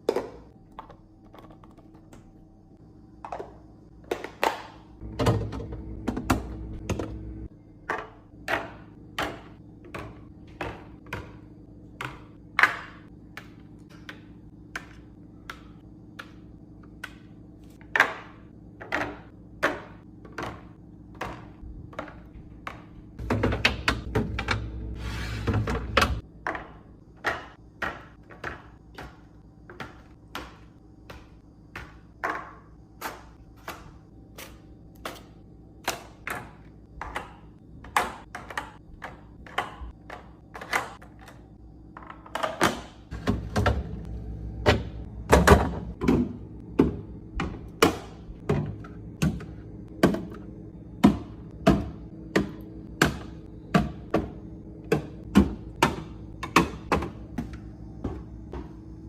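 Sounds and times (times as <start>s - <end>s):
containers clinking on fridge shelves: 0.0s - 2.4s, 3.2s - 59.0s.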